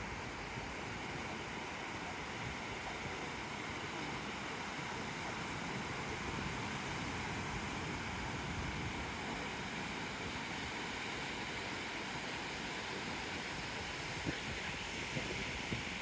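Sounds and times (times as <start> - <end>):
surf washing on beach: 0.0 - 16.0
wind: 0.0 - 16.0.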